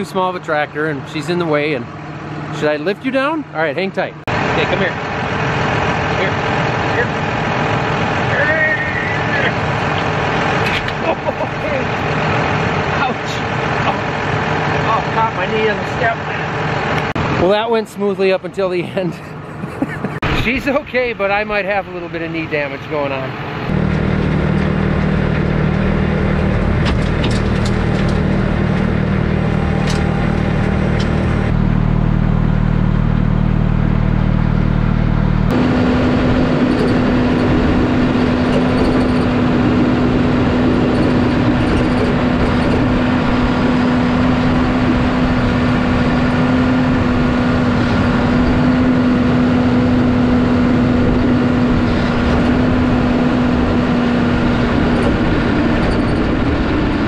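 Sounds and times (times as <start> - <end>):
loader tractor engine drone: 0.0 - 57.0
tractor driving a snowblower: 0.0 - 57.0.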